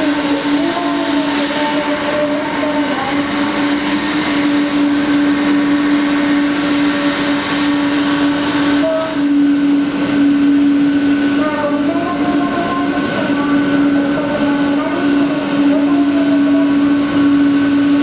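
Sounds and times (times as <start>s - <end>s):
jet engines taxiing: 0.0s - 18.0s.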